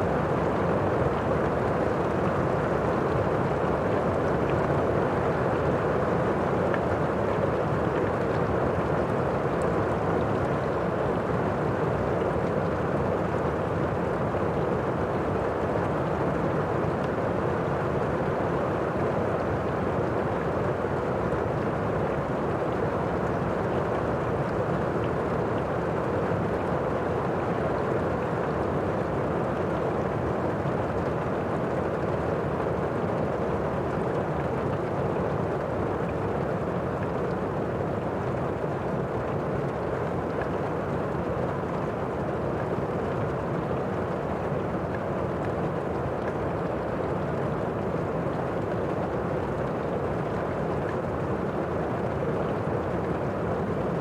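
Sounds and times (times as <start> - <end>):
muffled heavy rain: 0.0 - 54.0.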